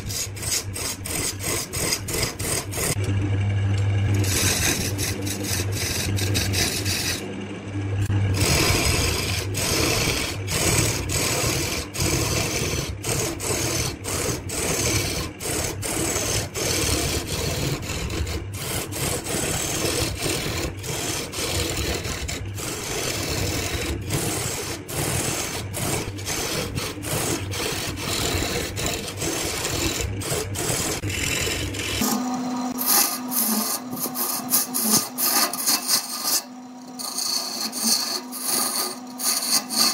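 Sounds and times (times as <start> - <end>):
turning tool scraping spinning wood: 0.0 - 3.2, 4.0 - 39.9
low rumble of lathe: 0.0 - 39.9
steady hum: 0.0 - 39.9.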